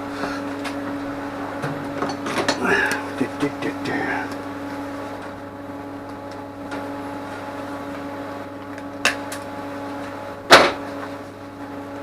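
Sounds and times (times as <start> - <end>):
workshop machine humming: 0.0 - 12.0.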